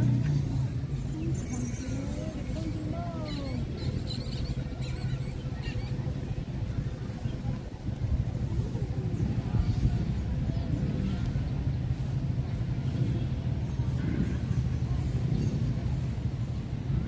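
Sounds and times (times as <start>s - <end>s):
faint voices: 0.0s - 17.0s
motor vehicle engines rumbling: 0.0s - 17.0s.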